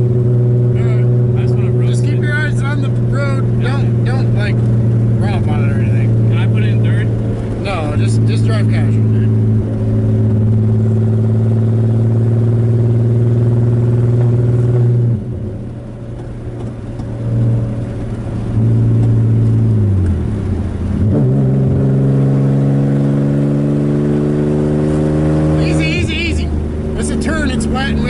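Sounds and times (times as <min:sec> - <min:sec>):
car engine and exhaust: 0:00.0 - 0:28.0.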